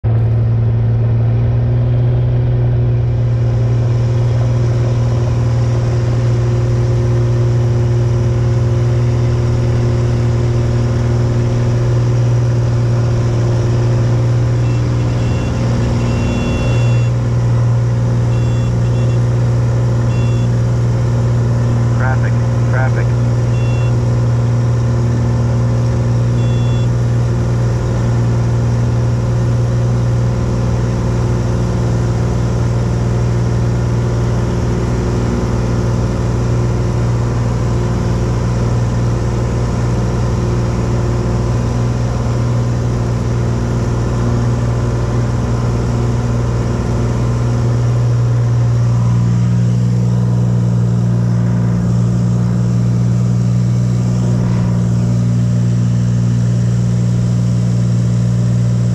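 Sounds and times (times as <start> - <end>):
propeller aircraft engine droning: 0.0 - 58.9.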